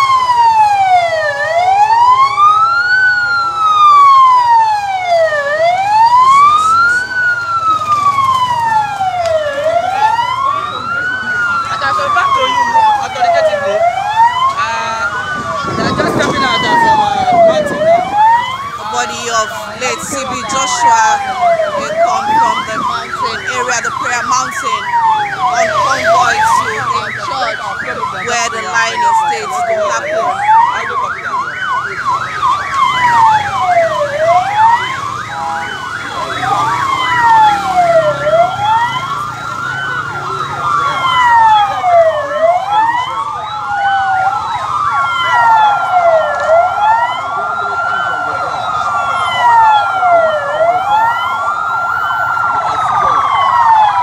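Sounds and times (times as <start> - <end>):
police sirens wailing: 0.0 - 54.0.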